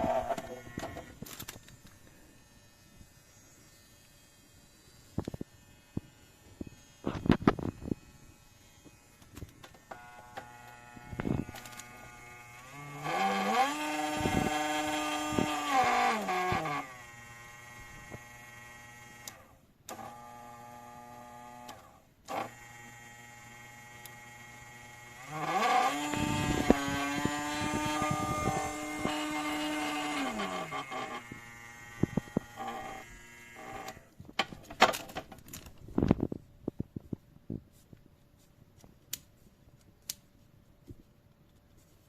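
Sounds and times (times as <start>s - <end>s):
electric nail drill whining: 0.0s - 34.1s.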